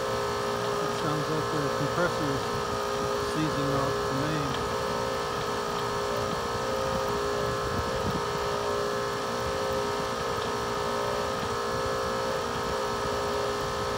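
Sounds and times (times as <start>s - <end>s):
air conditioner unit droning: 0.0s - 13.9s
compressor held tones: 0.0s - 13.9s.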